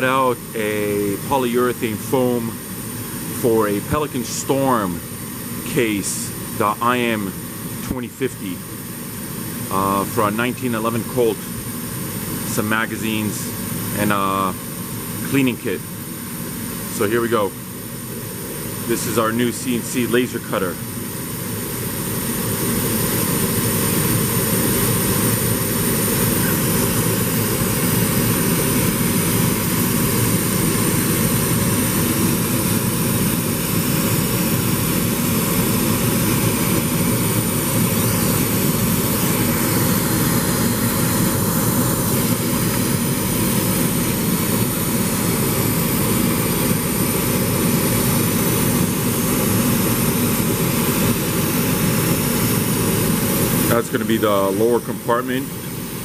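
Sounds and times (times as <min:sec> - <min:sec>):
laser cutter drone: 0:00.0 - 0:56.0.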